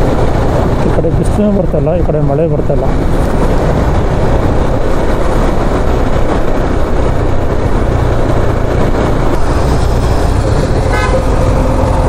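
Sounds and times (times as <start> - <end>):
motorcycle riding noise: 0.0 - 12.0
wind on microphone: 0.0 - 12.0.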